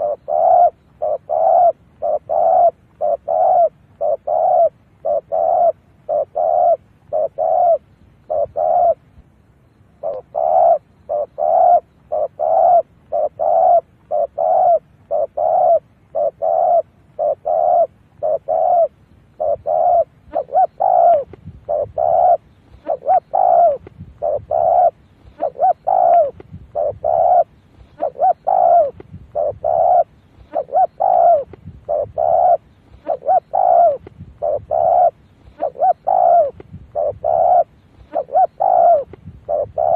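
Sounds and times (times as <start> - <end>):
dove cooing: 0.0 - 9.2, 10.0 - 39.9.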